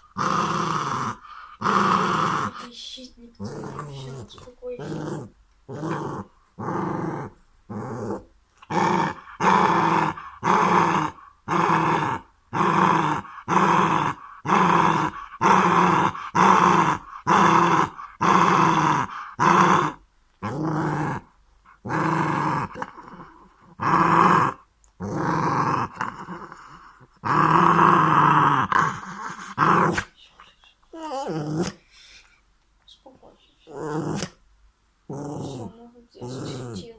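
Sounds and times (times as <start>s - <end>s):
dog growling: 0.0s - 30.1s, 30.9s - 31.9s, 33.6s - 34.4s, 35.1s - 36.9s.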